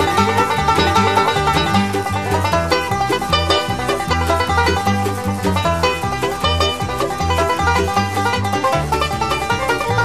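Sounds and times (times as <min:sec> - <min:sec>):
bass line: 0:00.0 - 0:10.0
fast-picked banjo: 0:00.0 - 0:10.0.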